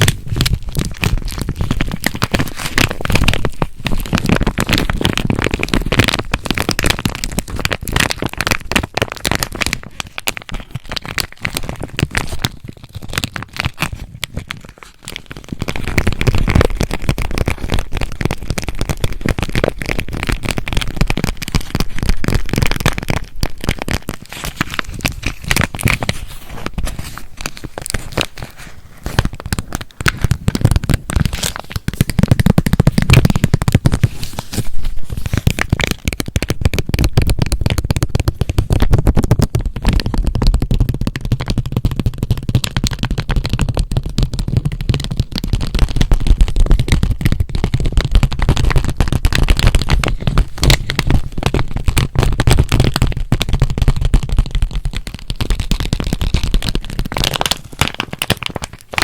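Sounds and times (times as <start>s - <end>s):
plastic packaging crinkling: 0.0s - 59.0s.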